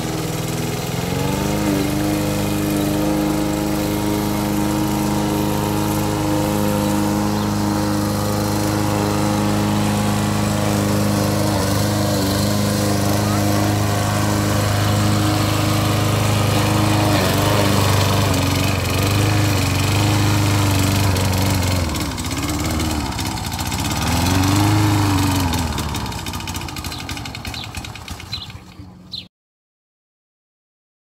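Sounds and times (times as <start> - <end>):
lawn mower engine running: 0.0 - 29.2.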